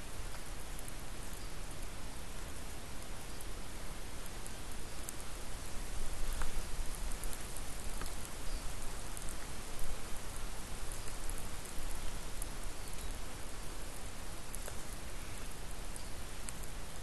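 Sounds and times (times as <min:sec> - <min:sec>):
steady hiss: 0:00.0 - 0:17.0
faint ticks: 0:00.2 - 0:03.5, 0:04.2 - 0:05.3, 0:06.0 - 0:16.9.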